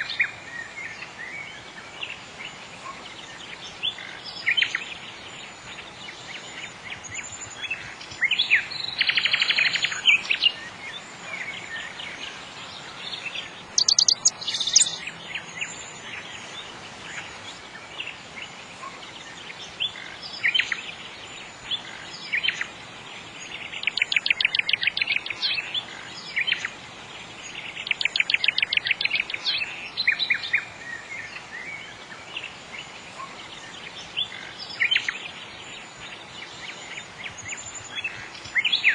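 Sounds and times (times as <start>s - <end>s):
faint background hiss: 0.0s - 38.9s
nightingale singing: 0.0s - 38.9s.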